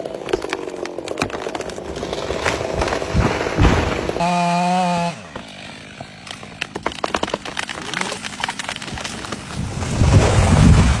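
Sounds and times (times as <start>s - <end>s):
tree crashing down: 0.0s - 4.2s, 5.4s - 11.0s
tree trunk cracking and splintering: 0.0s - 11.0s.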